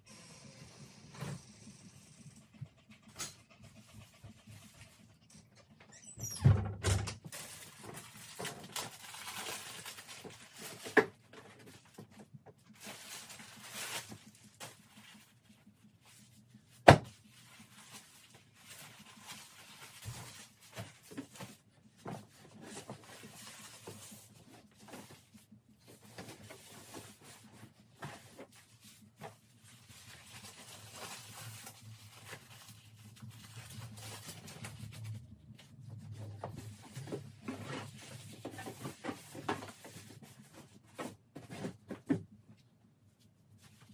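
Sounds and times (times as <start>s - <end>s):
plastic pad rustling and crinkling: 7.3s - 43.9s.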